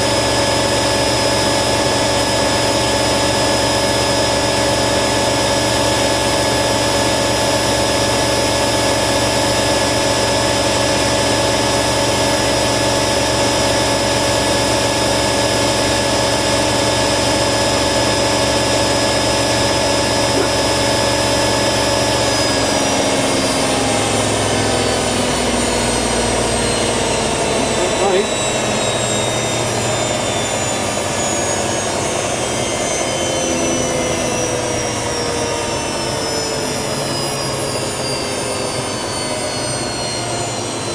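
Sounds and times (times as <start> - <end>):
washer dryer spinning and whining: 0.0 - 40.9.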